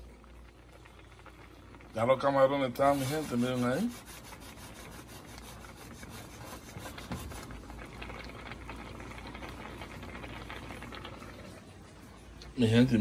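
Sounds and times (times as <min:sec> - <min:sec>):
water boiling in a skillet: 0:00.0 - 0:13.0.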